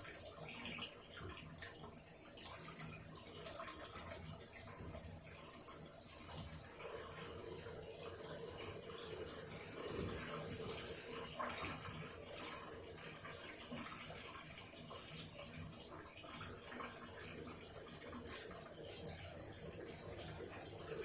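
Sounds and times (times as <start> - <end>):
water swishing in washing machine: 0.0 - 21.0.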